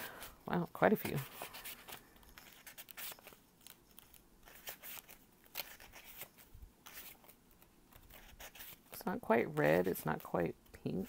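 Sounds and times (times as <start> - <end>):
paper rustling and crinkling: 0.2 - 11.0
sharp paper crackles: 1.2 - 10.4.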